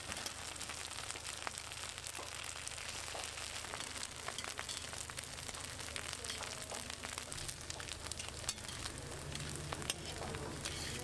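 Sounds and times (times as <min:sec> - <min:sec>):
ham sizzling on a griddle: 0:00.0 - 0:11.0.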